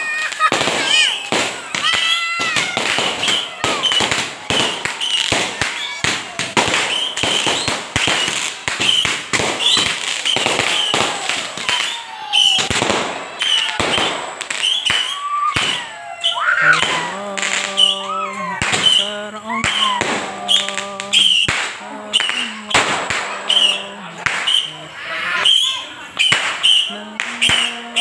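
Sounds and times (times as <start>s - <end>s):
firecrackers banging: 0.0s - 28.0s.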